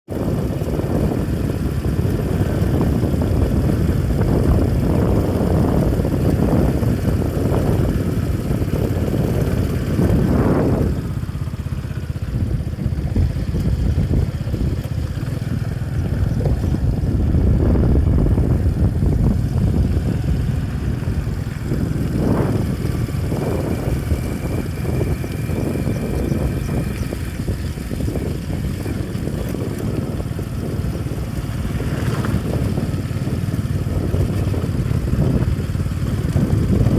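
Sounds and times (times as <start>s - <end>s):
vehicle engine and road noise: 0.1s - 36.9s.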